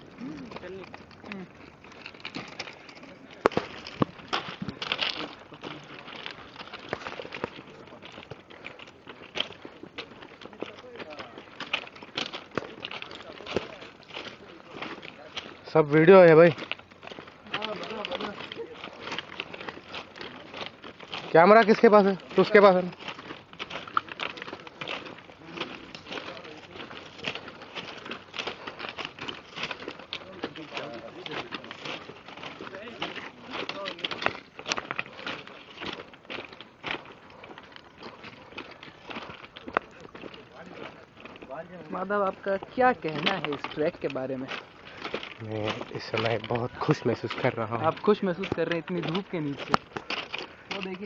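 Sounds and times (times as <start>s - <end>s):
footsteps crunching on stones: 0.0s - 51.0s.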